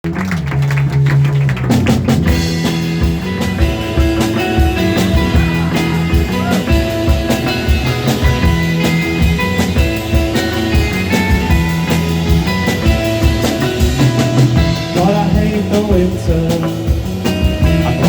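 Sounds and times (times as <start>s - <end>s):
drum beat: 0.2s - 18.0s
guitar notes: 2.3s - 18.0s.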